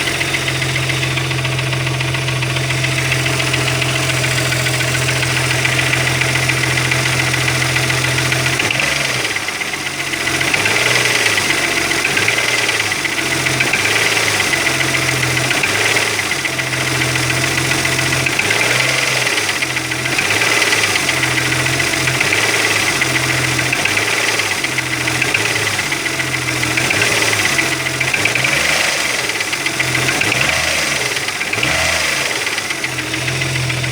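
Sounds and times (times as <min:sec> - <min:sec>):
car engine running with knock: 0:00.0 - 0:33.9.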